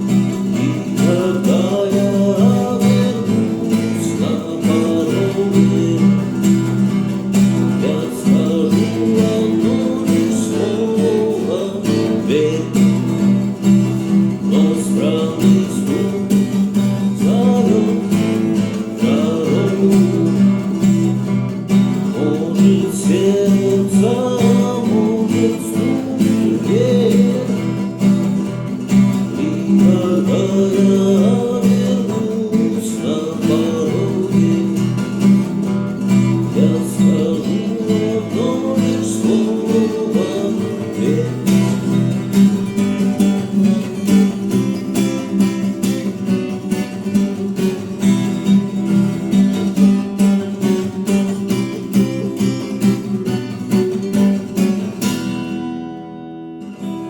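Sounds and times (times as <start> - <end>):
guitar strumming chords: 0.0 - 57.0.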